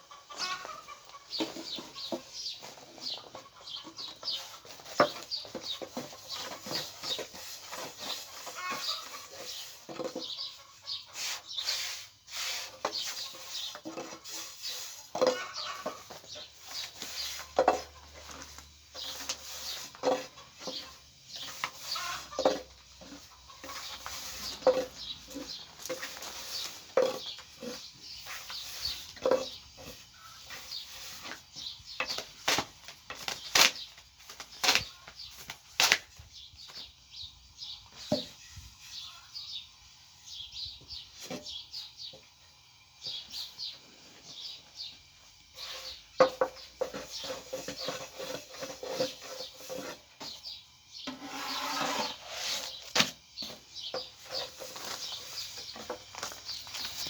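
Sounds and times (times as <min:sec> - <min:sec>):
chickens clucking: 0:00.0 - 0:35.6, 0:36.7 - 0:57.0
small birds chirping: 0:00.0 - 0:57.0.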